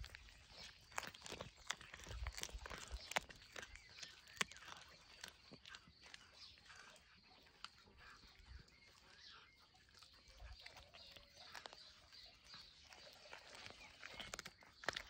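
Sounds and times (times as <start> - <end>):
cat chewing: 0.0 - 9.2, 9.8 - 15.0.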